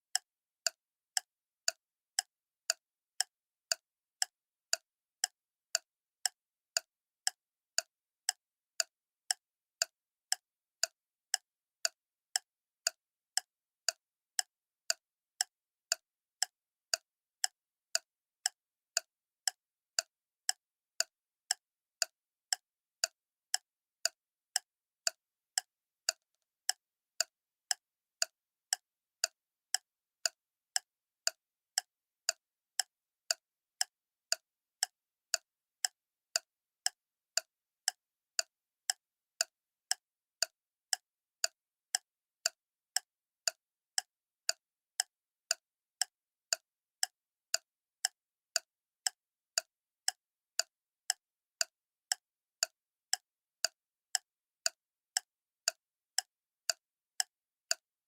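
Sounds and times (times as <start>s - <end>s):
clock ticking: 0.1s - 57.8s.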